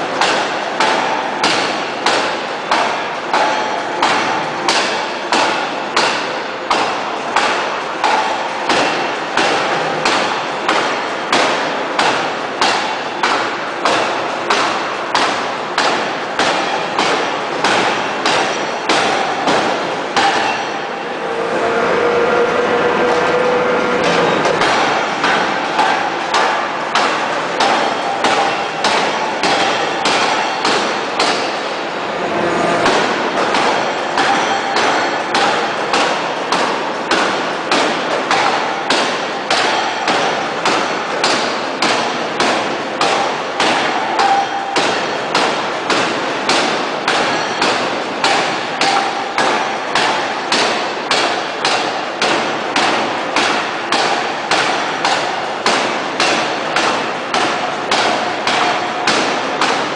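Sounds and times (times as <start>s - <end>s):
forging hammer heavy blows: 0.0s - 21.6s, 23.1s - 59.9s
steady machine noise: 0.0s - 59.9s.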